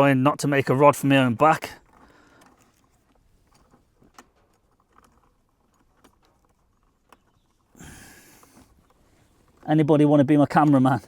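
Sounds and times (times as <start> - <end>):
cables rustling: 0.0 - 11.0.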